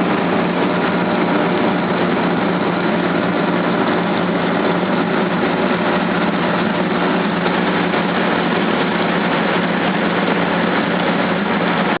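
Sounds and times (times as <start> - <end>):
boat engine humming: 0.0 - 12.0
rushing noise: 0.0 - 12.0.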